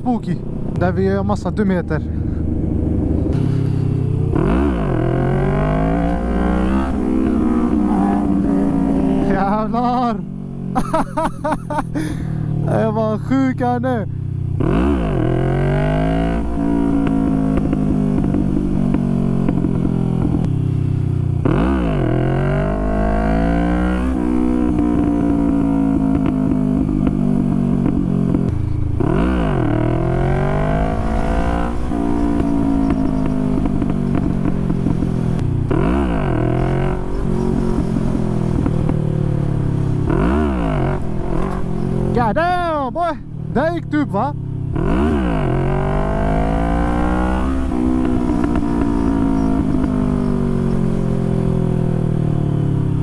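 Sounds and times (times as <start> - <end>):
motorcycle engine revving hard: 2.9 - 11.0, 14.5 - 20.6, 21.2 - 42.7, 44.5 - 53.0.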